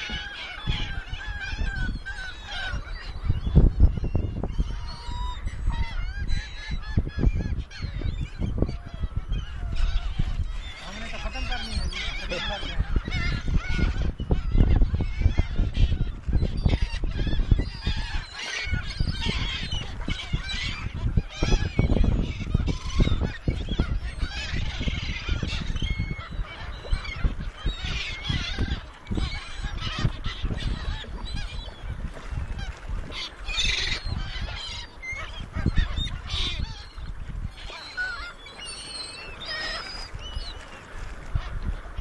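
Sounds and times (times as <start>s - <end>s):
gulls calling: 0.0s - 42.0s.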